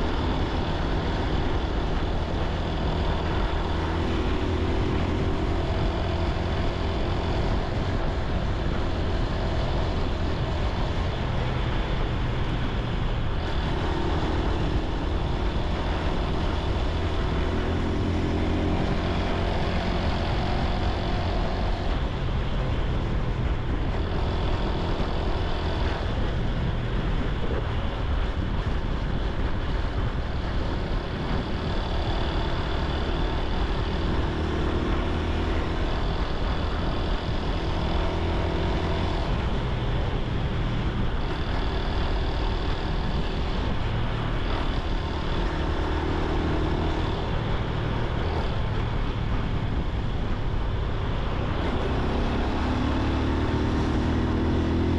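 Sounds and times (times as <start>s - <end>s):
motorcycle engine running: 0.0s - 54.9s
road and wind noise: 0.0s - 54.9s.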